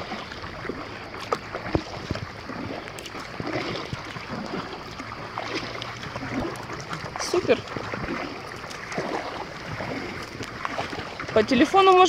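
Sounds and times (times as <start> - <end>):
small splashes: 0.0 - 12.0
water lapping against paddleboard: 0.0 - 12.0.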